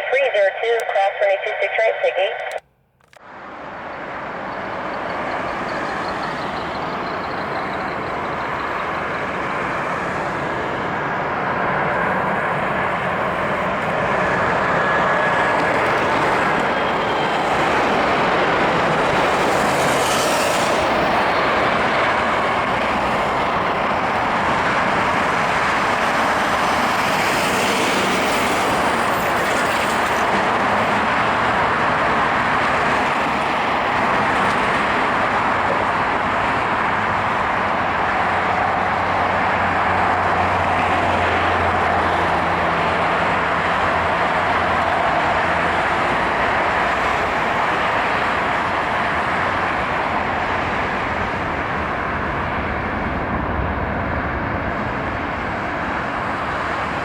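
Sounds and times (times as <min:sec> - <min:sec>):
jet engines rushing noise: 0:00.0 - 0:57.0.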